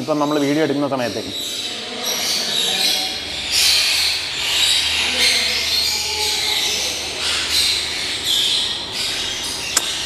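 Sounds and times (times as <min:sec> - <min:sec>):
caged birds chattering and screeching: 0:00.0 - 0:10.0.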